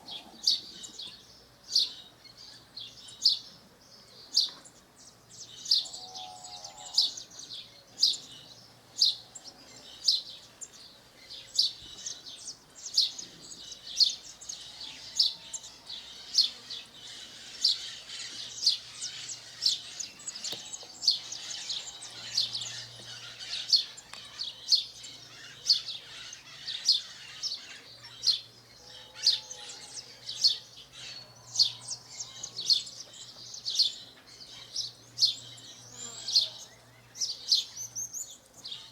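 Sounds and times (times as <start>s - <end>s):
sparrow chirping: 4.3s - 38.9s.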